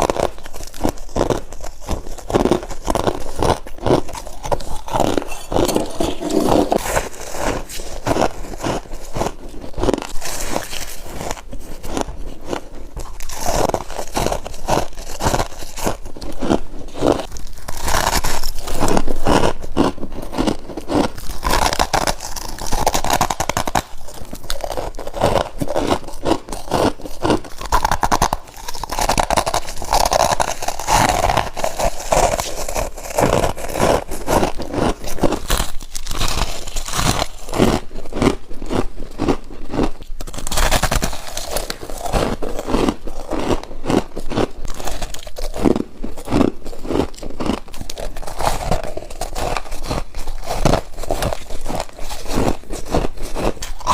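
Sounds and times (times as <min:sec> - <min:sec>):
crunching bites of frost: 0:00.0 - 0:53.9.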